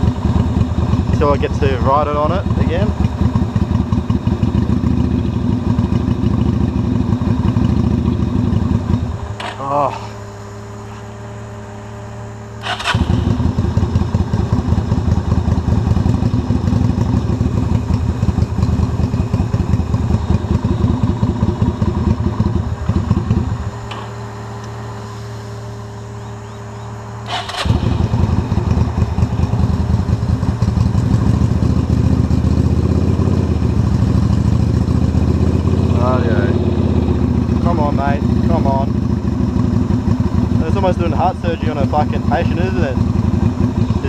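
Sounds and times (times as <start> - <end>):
car engine idling: 0.0 - 44.0
motorcycle engine running: 0.0 - 44.0.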